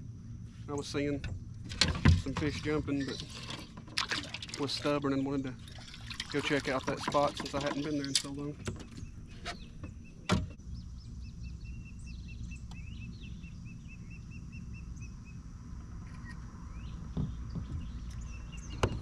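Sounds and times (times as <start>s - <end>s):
songbird chirping: 0.0s - 19.0s
steady low rumble: 0.0s - 19.0s.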